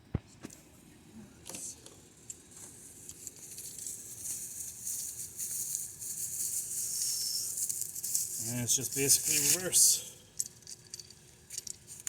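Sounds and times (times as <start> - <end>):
parts rustling and rattling: 2.2 - 12.0.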